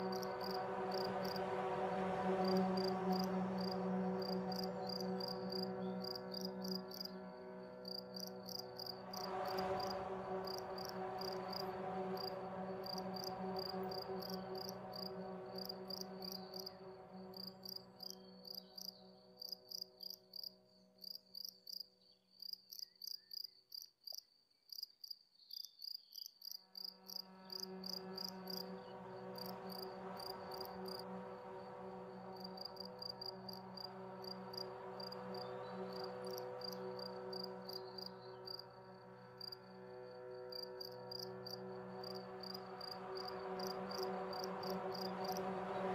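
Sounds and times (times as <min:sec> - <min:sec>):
ambient music drone: 0:00.0 - 0:22.2, 0:26.6 - 0:45.9
crickets chirping: 0:00.0 - 0:45.9.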